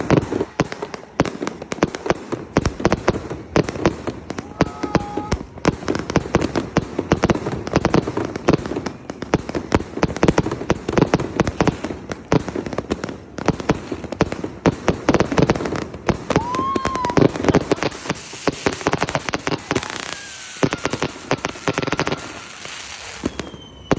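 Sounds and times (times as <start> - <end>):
fireworks and firecrackers banging: 0.0 - 23.9.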